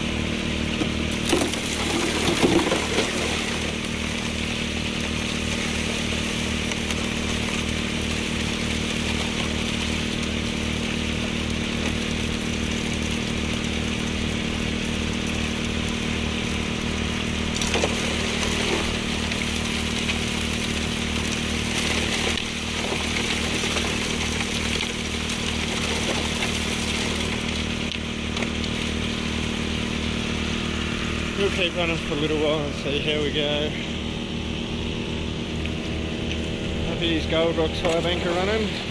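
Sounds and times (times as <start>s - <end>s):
small petrol engine running: 0.0s - 38.9s
water rushing through sluice: 0.0s - 38.9s.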